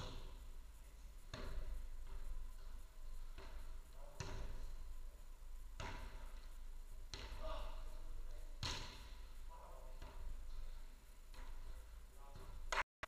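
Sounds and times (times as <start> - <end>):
ball hits echoing in hall: 1.2 - 4.9, 5.6 - 12.8.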